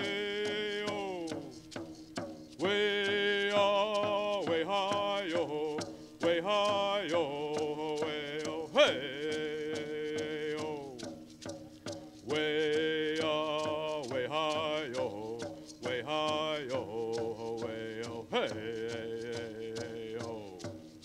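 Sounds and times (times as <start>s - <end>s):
man singing: 0.0s - 1.8s, 2.6s - 11.1s, 12.2s - 20.8s
hand drum beat: 0.0s - 21.0s.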